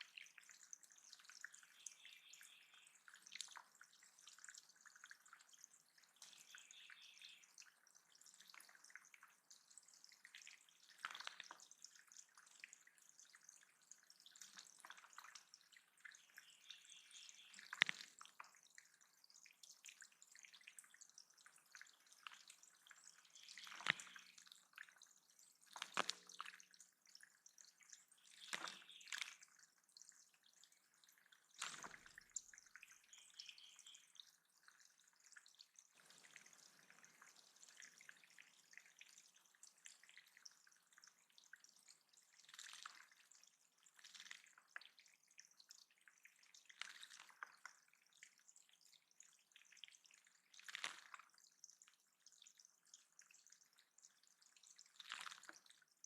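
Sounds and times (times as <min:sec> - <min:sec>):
water dripping and splashing: 0:00.0 - 0:56.0.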